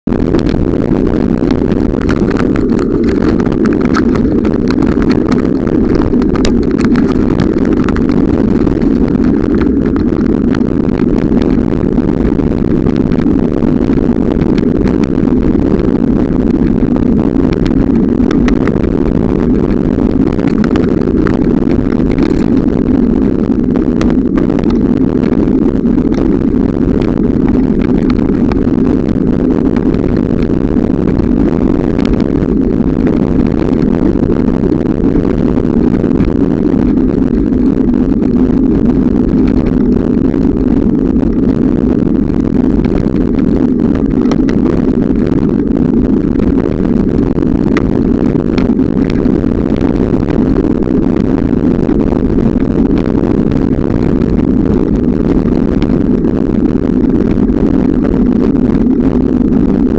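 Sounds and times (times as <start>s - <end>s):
rumbling wind noise on microphone: 0.0s - 59.9s.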